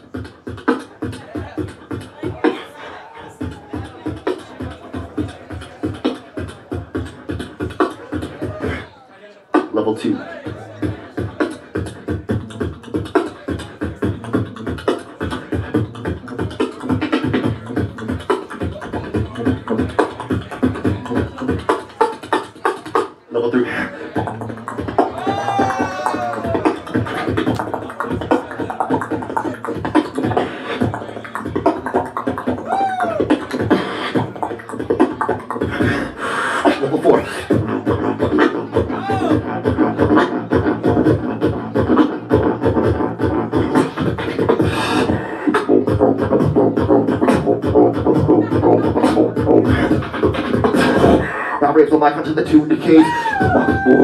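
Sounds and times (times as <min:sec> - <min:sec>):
beatboxing into microphone: 0:00.0 - 0:54.0.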